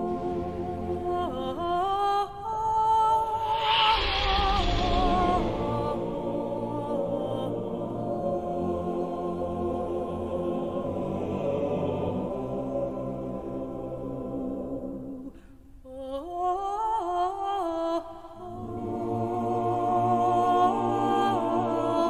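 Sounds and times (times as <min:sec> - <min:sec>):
choir-like held chords: 0:00.0 - 0:22.0.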